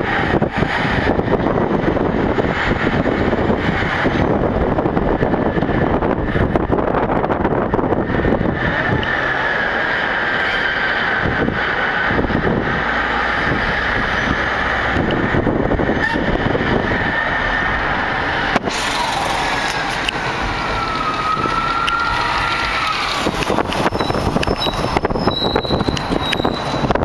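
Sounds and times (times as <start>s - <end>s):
large vehicles passing: 0.0s - 27.0s
road and engine noise: 0.0s - 27.0s.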